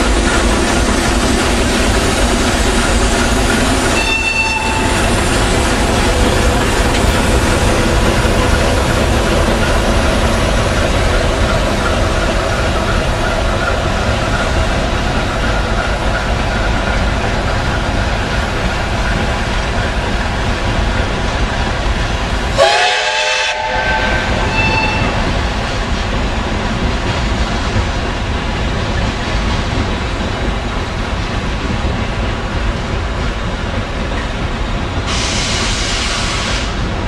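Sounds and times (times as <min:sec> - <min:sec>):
steam train running: 0:00.0 - 0:37.0.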